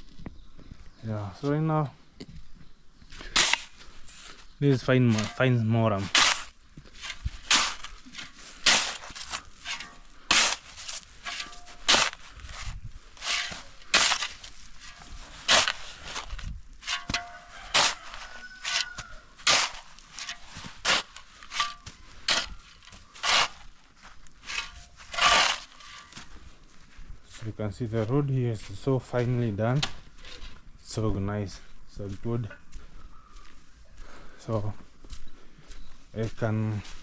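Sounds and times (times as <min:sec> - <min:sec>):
footsteps crunching on gravel: 0:00.0 - 0:37.0.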